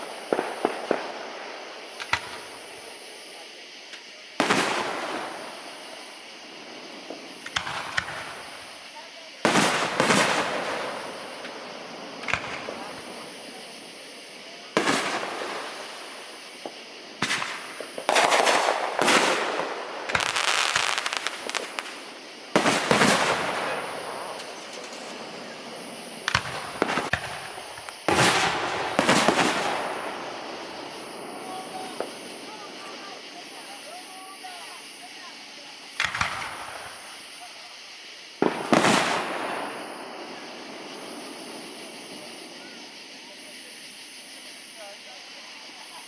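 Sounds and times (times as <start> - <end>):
firework bangs: 0.0 - 44.8
firework crackling and fizzing: 0.0 - 46.0.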